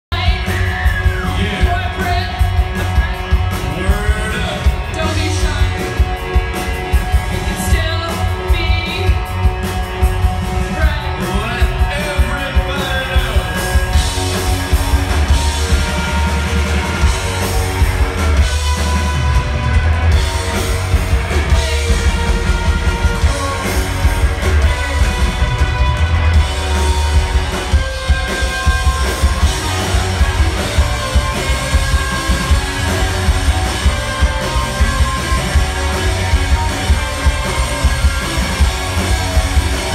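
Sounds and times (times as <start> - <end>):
live rock band playing: 0.1 - 39.9.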